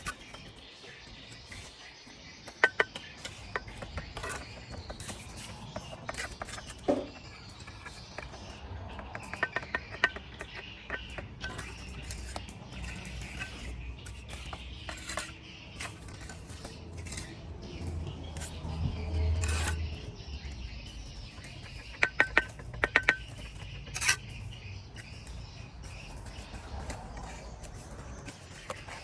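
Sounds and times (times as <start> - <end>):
metal tools tapping on brick: 2.4 - 29.0.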